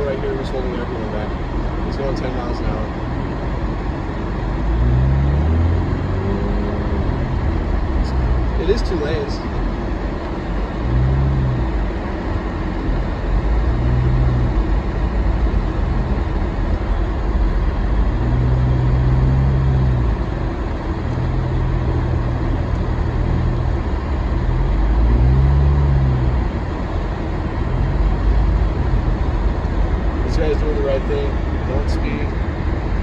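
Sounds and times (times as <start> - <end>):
car engine hum inside cabin: 0.0 - 33.0.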